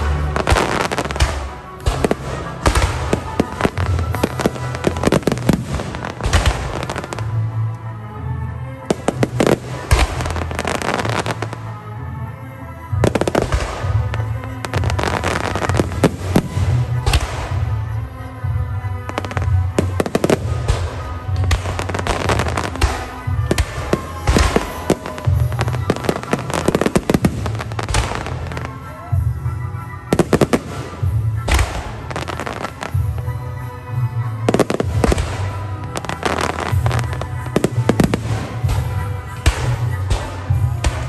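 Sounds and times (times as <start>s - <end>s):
music playing: 0.0s - 41.0s.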